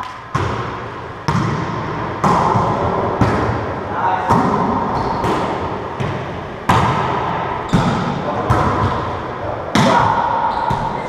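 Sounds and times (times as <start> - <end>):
ball smacks with echo: 0.0 - 9.1, 9.7 - 11.0.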